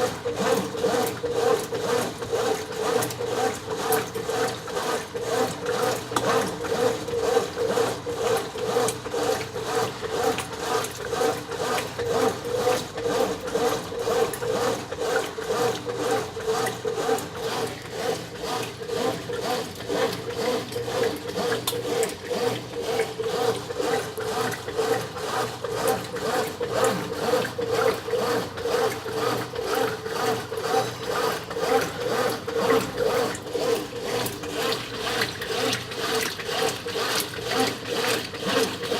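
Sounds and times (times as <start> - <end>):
washing machine agitating: 0.0 - 38.9.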